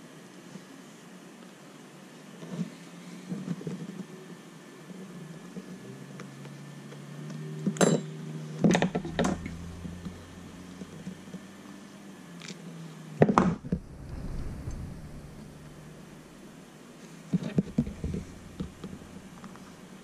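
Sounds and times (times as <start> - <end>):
low steady hum: 1.6 - 20.0.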